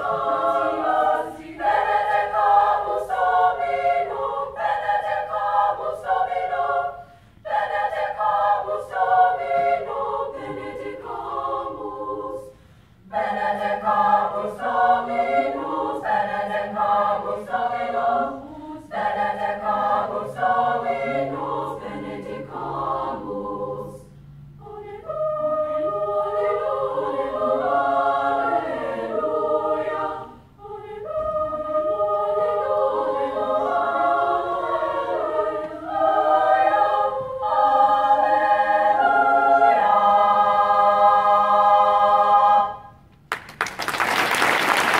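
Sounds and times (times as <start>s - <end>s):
girls' choir singing: 0.0s - 43.0s.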